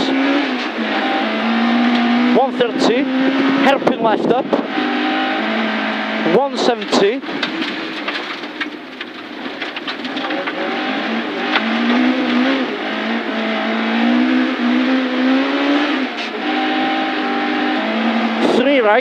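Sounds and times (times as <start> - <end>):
rally car engine at full throttle: 0.0 - 19.0
tyre and road noise: 0.0 - 19.0.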